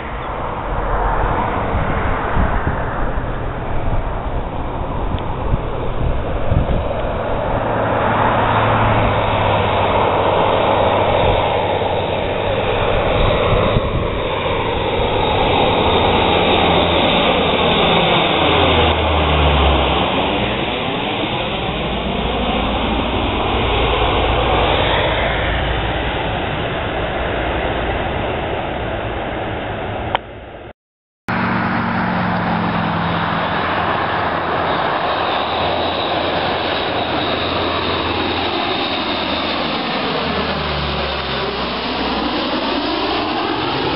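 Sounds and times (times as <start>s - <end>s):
turboprop plane passing overhead: 0.0s - 30.7s, 31.3s - 43.9s.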